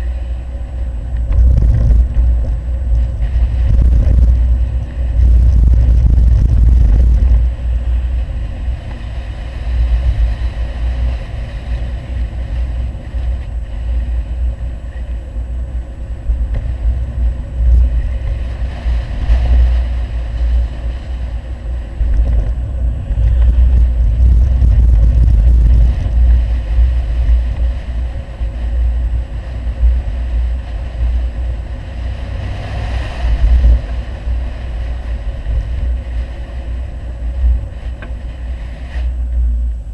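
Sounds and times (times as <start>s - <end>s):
deep exhaust rumble: 0.0s - 39.9s.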